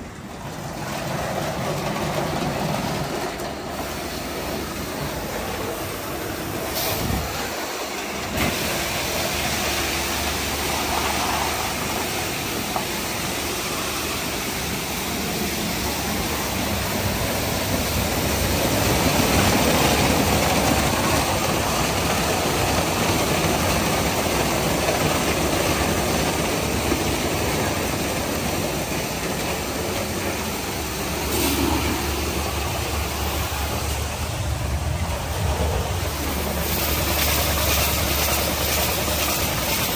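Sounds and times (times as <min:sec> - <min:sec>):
car wash spray and machinery: 0:00.0 - 0:39.9.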